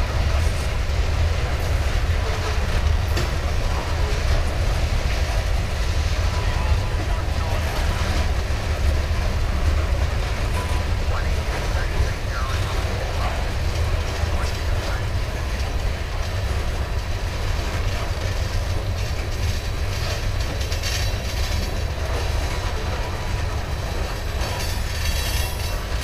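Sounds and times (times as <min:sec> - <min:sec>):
train wheels rumbling and clattering: 0:00.0 - 0:26.0.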